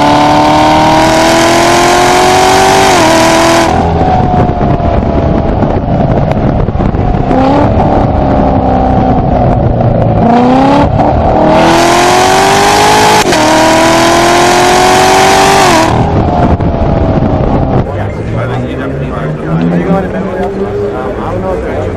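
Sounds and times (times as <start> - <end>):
car engine accelerating through gears: 0.0 - 21.9.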